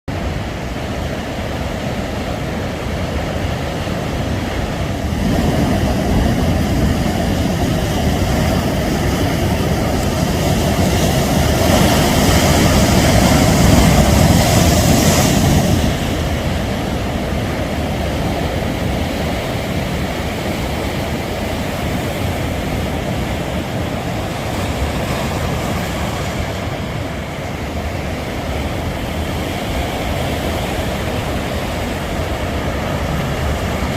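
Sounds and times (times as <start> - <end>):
ocean surf breaking on beach: 0.1 - 33.9.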